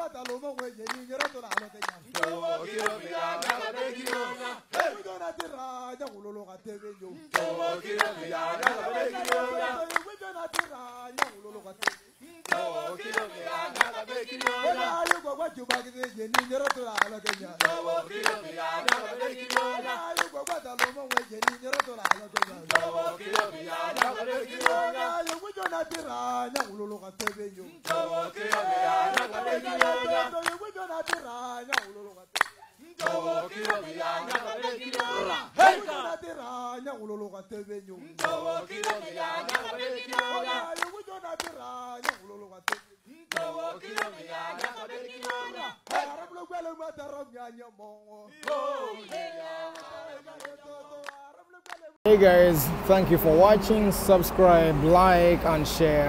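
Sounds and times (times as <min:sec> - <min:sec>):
group singing in chorus: 0:01.9 - 0:06.1, 0:07.1 - 0:37.0, 0:38.0 - 0:47.5, 0:48.2 - 0:51.8.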